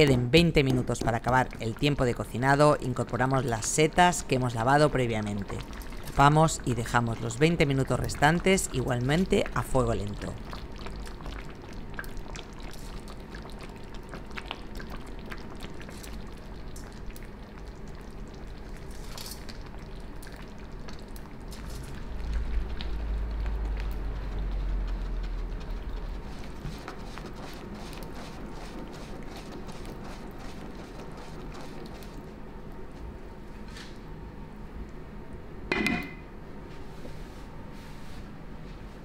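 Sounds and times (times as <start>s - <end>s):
stew bubbling: 0.0s - 32.8s.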